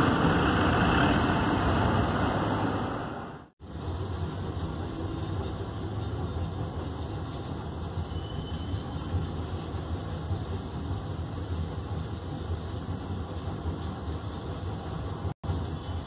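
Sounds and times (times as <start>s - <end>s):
diesel engines rumbling: 0.0s - 16.0s.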